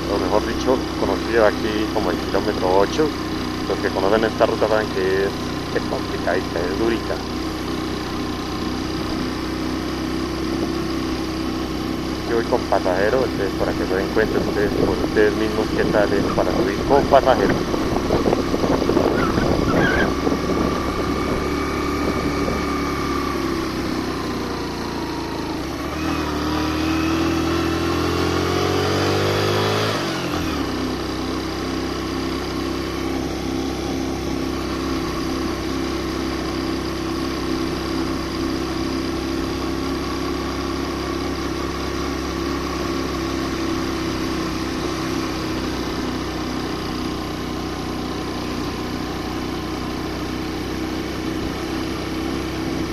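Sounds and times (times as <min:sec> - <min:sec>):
motorcycle engine climbing hill: 0:00.0 - 0:52.9.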